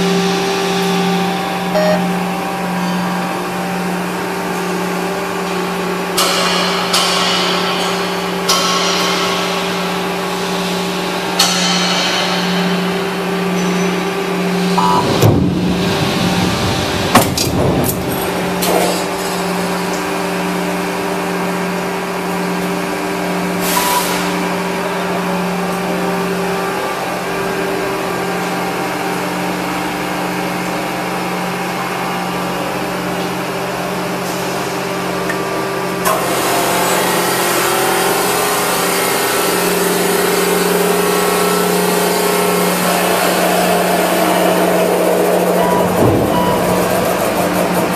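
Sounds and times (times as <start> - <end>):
stamping press machinery hum: 0.0 - 47.9.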